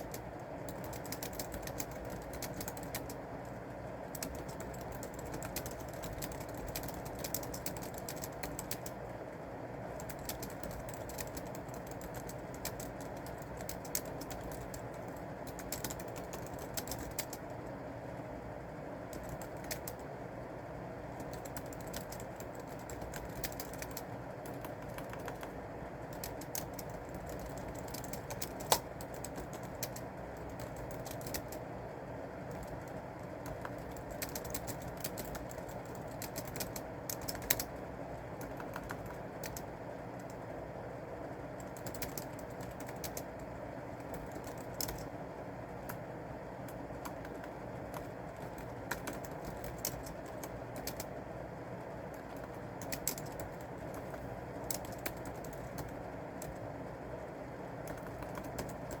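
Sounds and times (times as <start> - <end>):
typing on computer keyboard: 0.0 - 9.2, 9.9 - 17.8, 19.1 - 20.1, 21.1 - 31.7, 32.4 - 40.5, 41.5 - 51.2, 51.8 - 56.8, 57.7 - 59.0
low background hum: 0.0 - 59.0.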